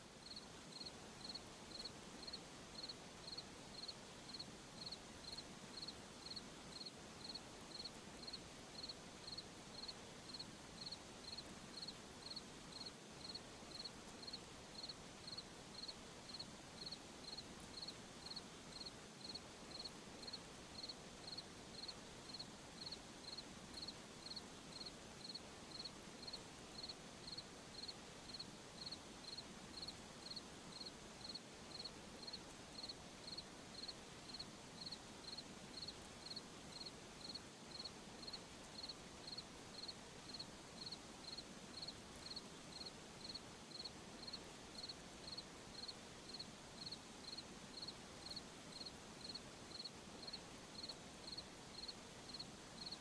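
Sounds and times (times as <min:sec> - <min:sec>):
faint background hiss: 0:00.0 - 0:53.0
cricket chirping: 0:00.2 - 0:53.0.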